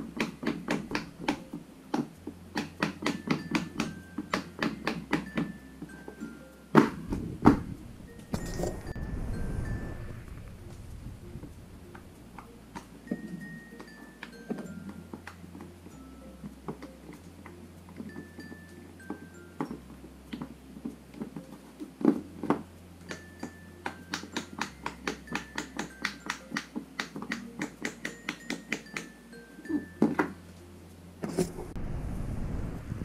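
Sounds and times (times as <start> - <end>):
quiet background music: 0.0 - 33.0.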